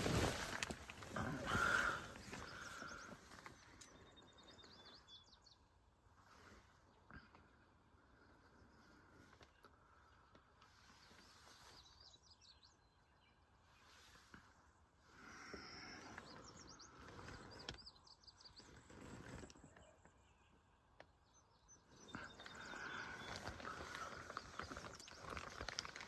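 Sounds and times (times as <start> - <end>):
small birds chirping: 0.0 - 26.0
soft outdoor noise: 0.0 - 26.0.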